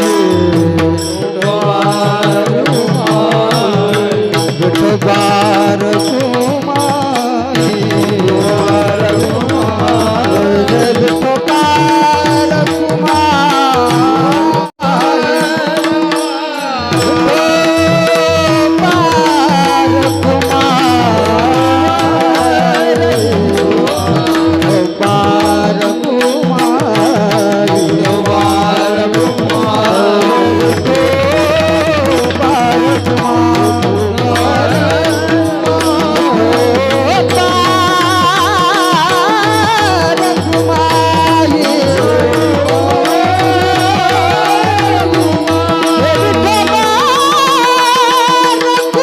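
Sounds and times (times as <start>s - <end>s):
devotional song melody: 0.0s - 49.0s
hand drum rhythm: 0.0s - 49.0s.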